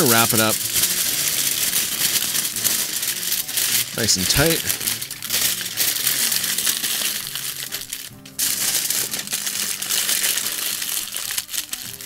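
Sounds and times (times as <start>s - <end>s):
aluminium foil crinkling: 0.0s - 12.0s
background music: 0.0s - 12.0s.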